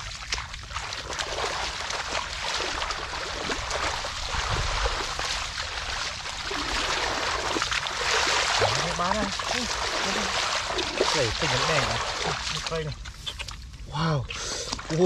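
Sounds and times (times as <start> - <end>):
hands squelching through wet mud: 0.0 - 15.0.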